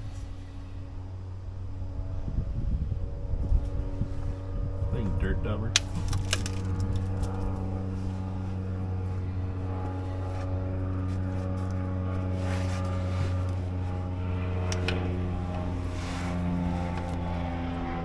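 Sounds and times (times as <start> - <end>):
machine humming: 0.0 - 18.0.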